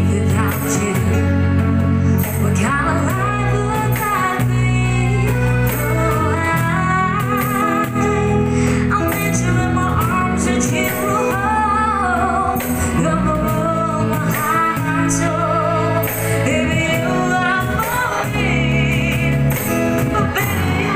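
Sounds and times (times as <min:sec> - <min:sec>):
accordion: 0:00.0 - 0:20.9
cajon with cymbal: 0:00.0 - 0:20.9
upright bass: 0:00.0 - 0:20.9
woman singing with vibrato: 0:00.0 - 0:20.9.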